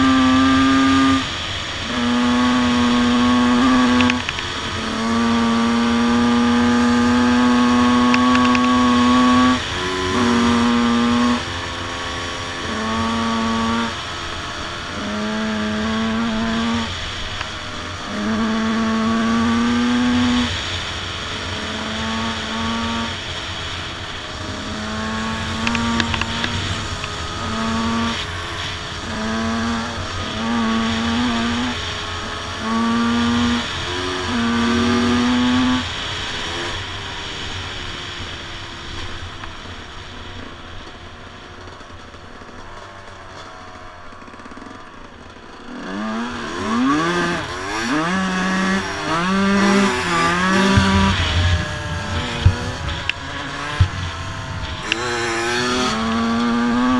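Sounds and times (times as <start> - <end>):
dirt bike engine revving: 0.0 - 56.9
second dirt bike engine: 0.0 - 56.9.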